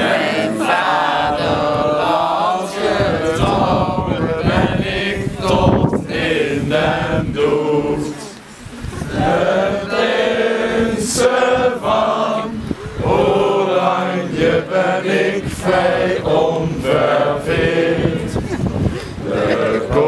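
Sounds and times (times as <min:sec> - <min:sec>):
young people singing in unison: 0:00.0 - 0:20.0.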